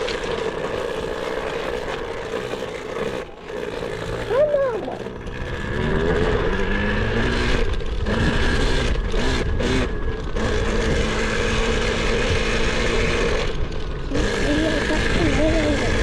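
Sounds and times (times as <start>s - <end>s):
electric dirt bike motor whining: 0.0s - 16.0s.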